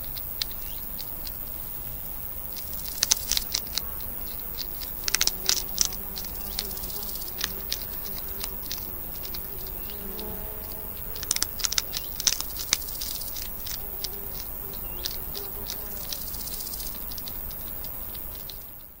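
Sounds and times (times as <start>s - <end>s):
hedgehogs crunching hard food: 0.0s - 19.0s.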